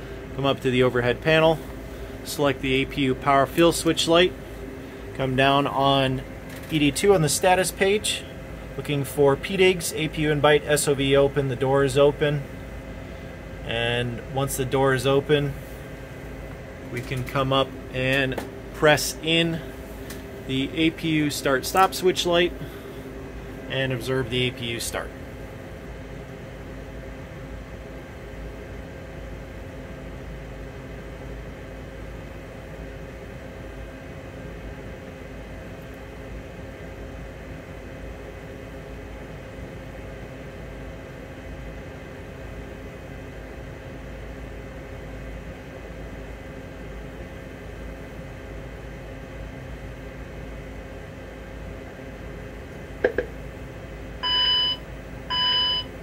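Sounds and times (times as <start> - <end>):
ventilation fans humming: 0.0 - 56.0.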